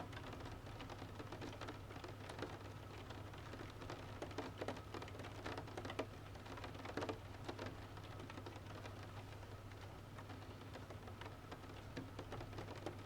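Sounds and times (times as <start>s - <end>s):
steady rain patter: 0.0s - 13.0s.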